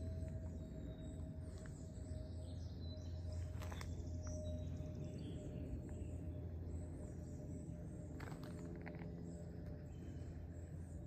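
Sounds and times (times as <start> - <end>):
forest birds chirping: 0.0 - 11.0
steady low rumble: 0.0 - 11.0.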